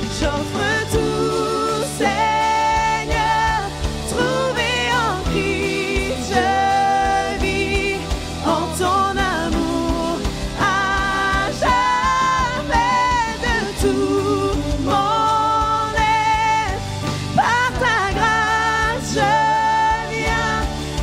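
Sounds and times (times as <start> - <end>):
person singing: 0.0 - 21.0
sustained instrumental backing: 0.0 - 21.0.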